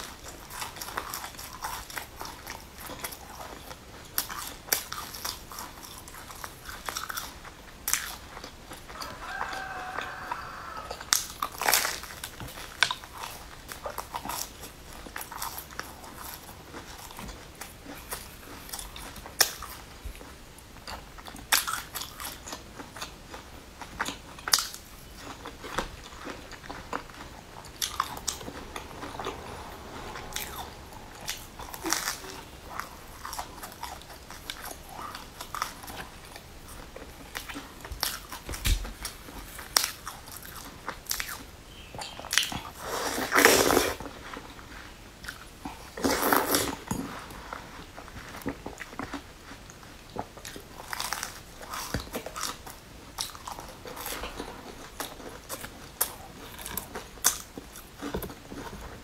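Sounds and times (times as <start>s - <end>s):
chewing crunchy pastry: 0.0s - 59.0s.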